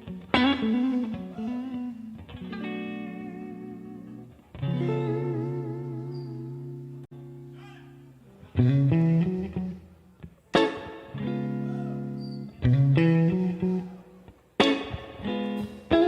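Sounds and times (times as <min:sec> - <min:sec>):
guitar playing slow chords: 0:00.0 - 0:16.0.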